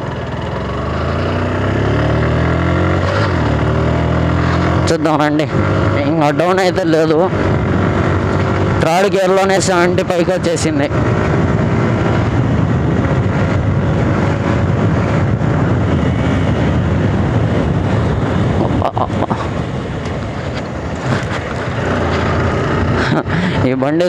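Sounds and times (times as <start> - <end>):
motorcycle engine at speed: 0.0 - 24.0
wind rush over microphone: 2.3 - 24.0.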